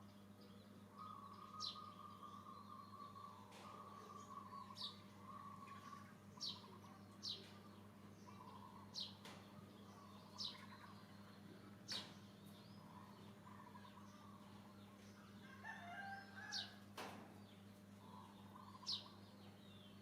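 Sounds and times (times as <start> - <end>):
steady low hum: 0.0 - 15.6, 16.2 - 20.0
bird chirps: 0.0 - 16.8, 17.4 - 20.0.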